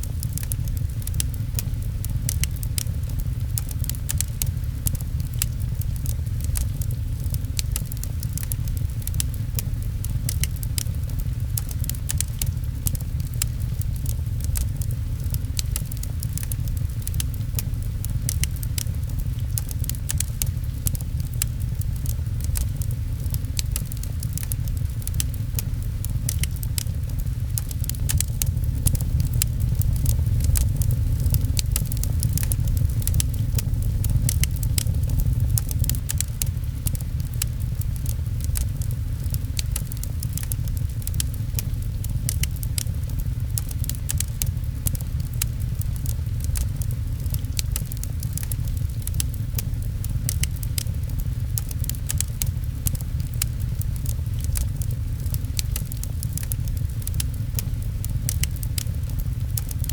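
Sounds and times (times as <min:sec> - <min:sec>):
rain pattering: 0:00.0 - 0:59.9
wood fire crackling and popping: 0:00.0 - 0:59.9.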